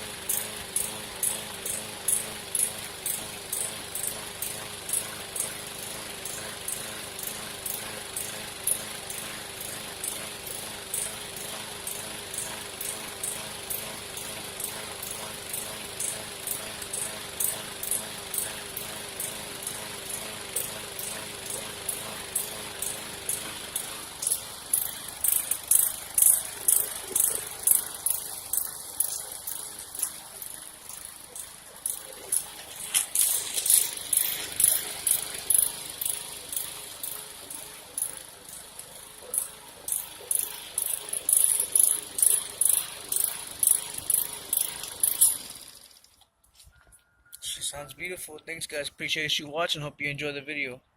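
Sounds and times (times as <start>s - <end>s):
lawnmower engine clicking rattle: 0.0s - 46.4s.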